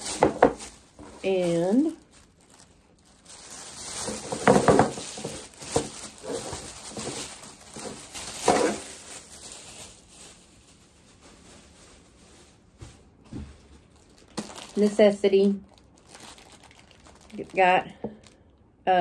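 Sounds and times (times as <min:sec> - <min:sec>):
plastic bag rustling: 0:00.0 - 0:18.4.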